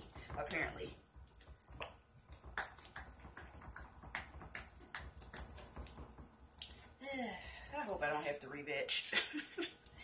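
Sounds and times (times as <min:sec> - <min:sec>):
spatula stirring thick batter: 0:00.0 - 0:09.0.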